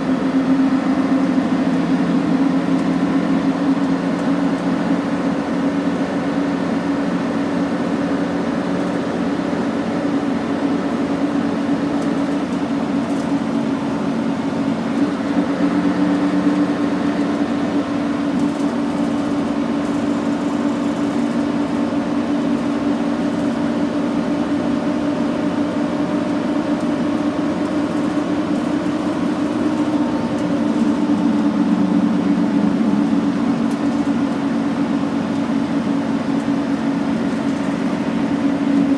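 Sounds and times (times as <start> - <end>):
bus diesel engine humming: 0.0 - 38.9.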